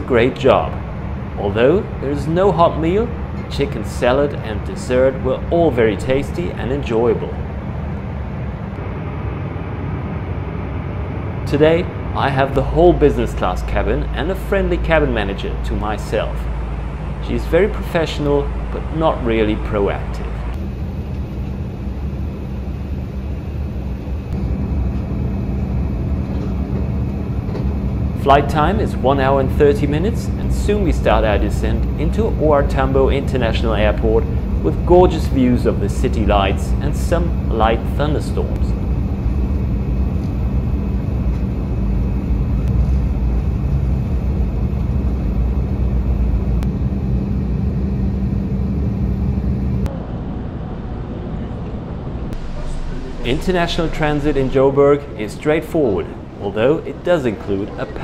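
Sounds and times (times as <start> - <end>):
jet cabin drone: 0.0 - 58.0
low hum: 0.0 - 58.0.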